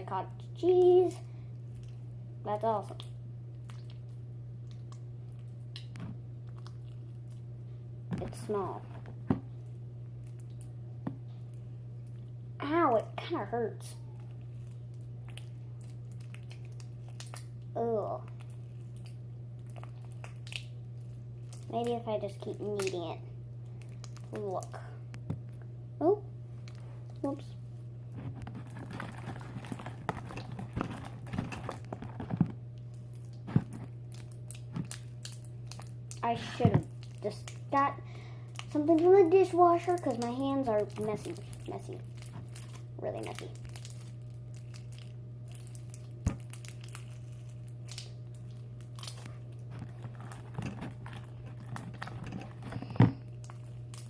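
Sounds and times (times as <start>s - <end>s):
slime squelching as kneaded: 0.0s - 54.0s
steady low hum: 0.0s - 54.0s.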